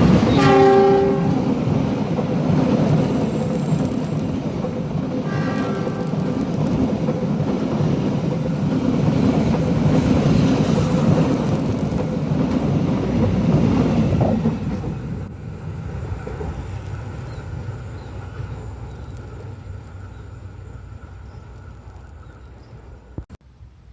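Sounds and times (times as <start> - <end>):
train passing on rails: 0.0 - 23.9.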